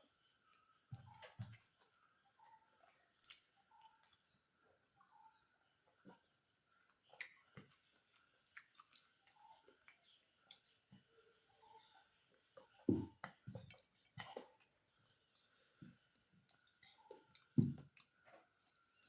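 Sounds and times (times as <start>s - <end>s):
close chewing and mouth clicks: 0.4s - 19.0s.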